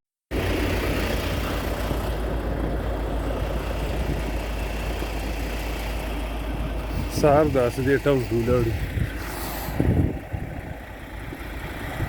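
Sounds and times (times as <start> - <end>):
car engine and cabin rumble: 0.3 - 12.0.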